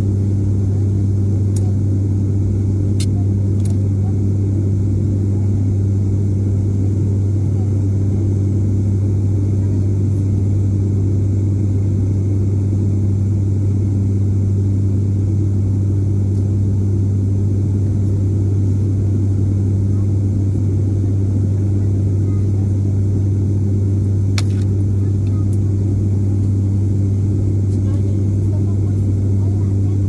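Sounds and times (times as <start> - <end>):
propeller engine droning: 0.0 - 30.0.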